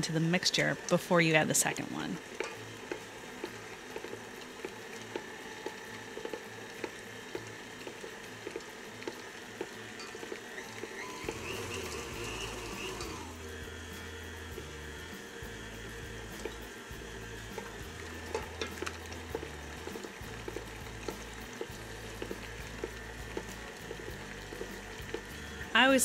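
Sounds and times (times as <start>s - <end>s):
stand mixer beating thick paste: 0.0s - 26.0s.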